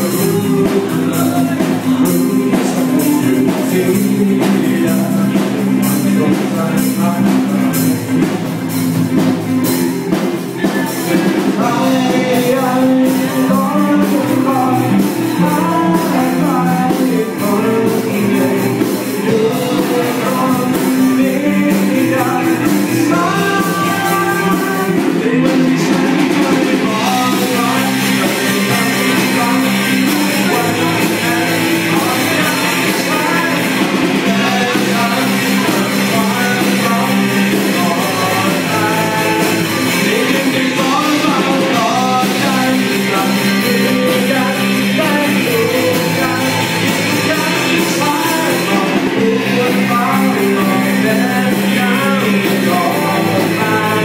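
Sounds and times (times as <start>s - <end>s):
boy singing into microphone: 0.0s - 7.9s, 10.6s - 54.0s
rock band playing: 0.0s - 54.0s.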